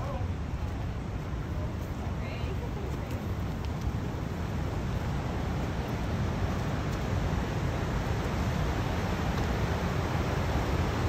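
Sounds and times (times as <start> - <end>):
whitewater river rushing over rock: 0.0 - 11.0.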